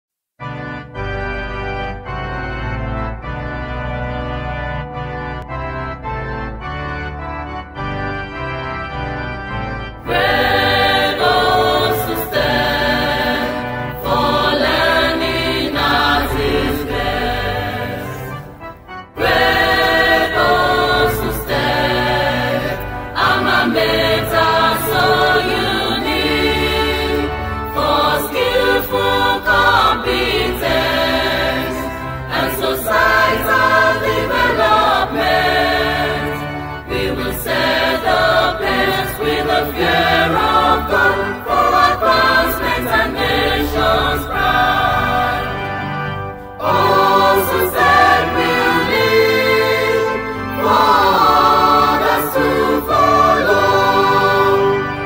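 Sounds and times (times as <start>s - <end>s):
organ playing chords: 0.4s - 55.0s
choir singing: 9.9s - 55.0s.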